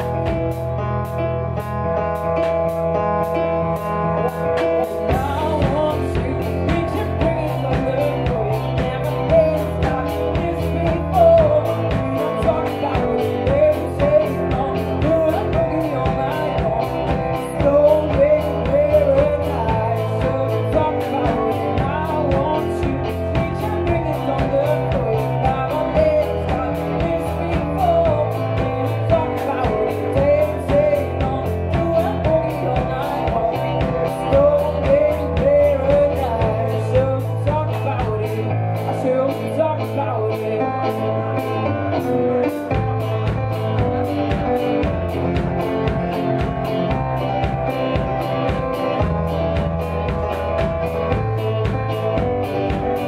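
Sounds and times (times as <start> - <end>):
steady drum beat: 0.0 - 39.0, 42.1 - 53.0
electric guitar: 0.0 - 53.0
keyboard: 0.0 - 53.0
woman singing: 4.8 - 53.0.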